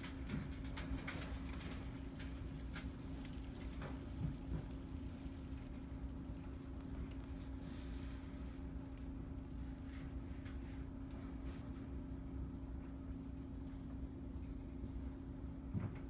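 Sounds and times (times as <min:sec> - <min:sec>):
faint constant hum: 0:00.0 - 0:16.0
low rumble of storm wind: 0:00.0 - 0:16.0.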